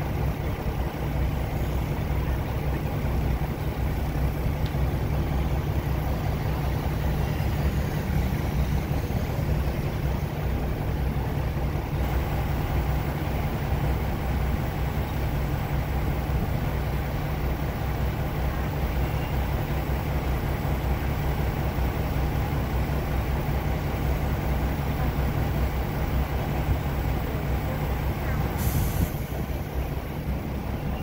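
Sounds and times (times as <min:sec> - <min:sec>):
diesel train engine idling: 0:00.0 - 0:31.0.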